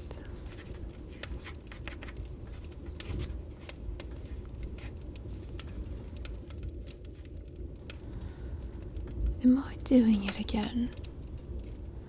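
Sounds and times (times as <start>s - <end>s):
fire crackling and popping: 0.0s - 12.0s
steady low rumble of rain: 0.0s - 12.0s.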